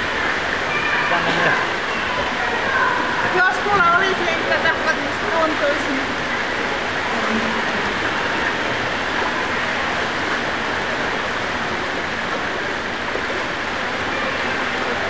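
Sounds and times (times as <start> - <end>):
pool water splashing: 0.0 - 15.0.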